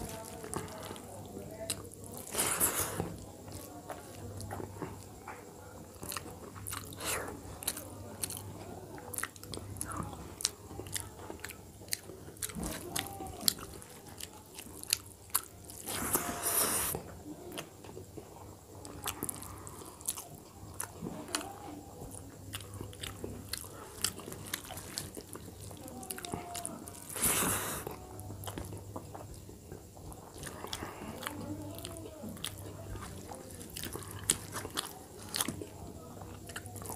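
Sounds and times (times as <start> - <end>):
man chewing with lip smacks: 0.0 - 36.9.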